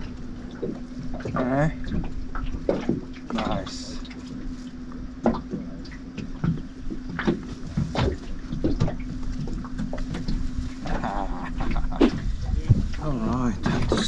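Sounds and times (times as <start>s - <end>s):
clicks and knocks handling fish: 0.0s - 14.0s
steady low hum: 0.0s - 14.0s.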